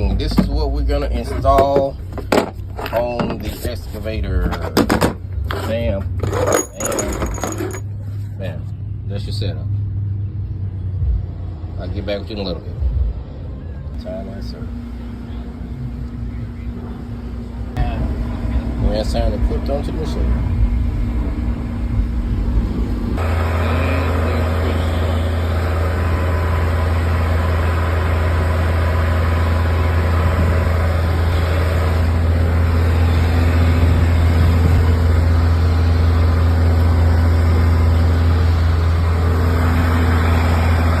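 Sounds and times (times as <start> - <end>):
large engine low drone: 0.0 - 41.0.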